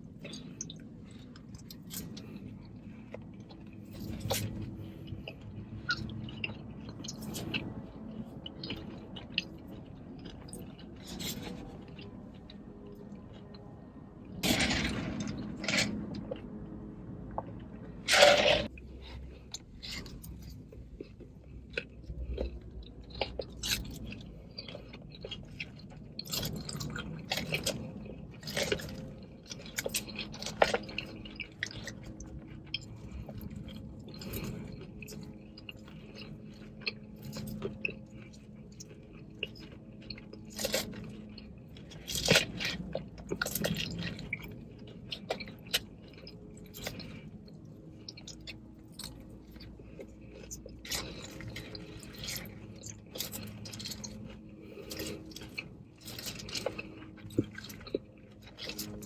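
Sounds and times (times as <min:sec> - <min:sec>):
chewing and crunching salad: 0:00.0 - 0:59.0.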